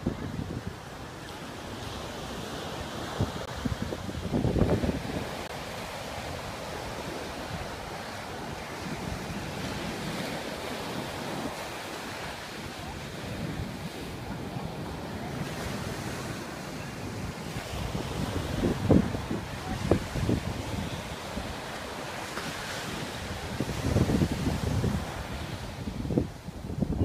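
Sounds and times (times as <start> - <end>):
surf washing up a beach: 0.0 - 27.0
wind rumbling on microphone: 0.0 - 27.0.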